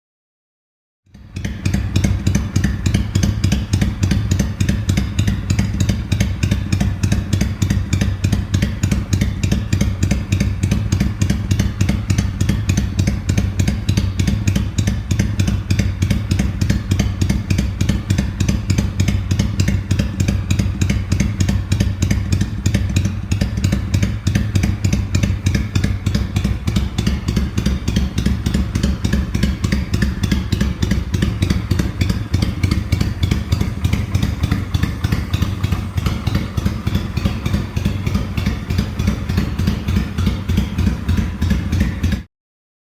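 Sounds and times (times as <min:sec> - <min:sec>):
motorcycle engine idling: 0:01.1 - 0:42.3.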